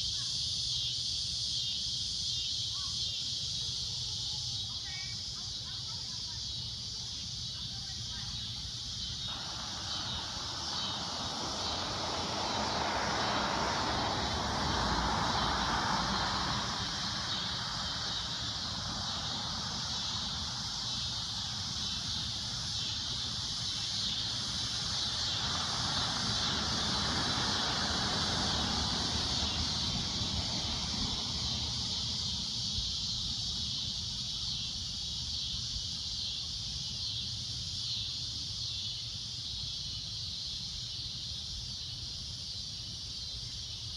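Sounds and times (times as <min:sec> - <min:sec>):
cicadas droning: 0:00.0 - 0:43.9.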